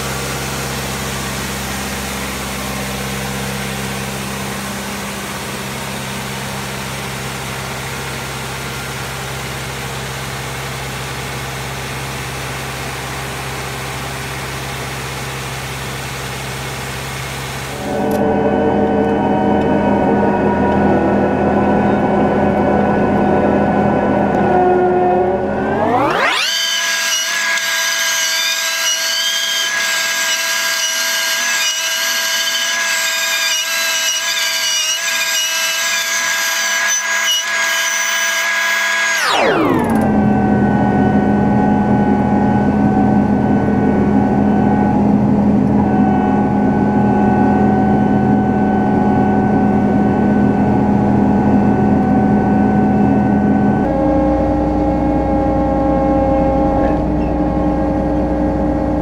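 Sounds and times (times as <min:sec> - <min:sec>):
combine harvester engine running: 0:00.0 - 0:27.8, 0:39.3 - 0:59.0.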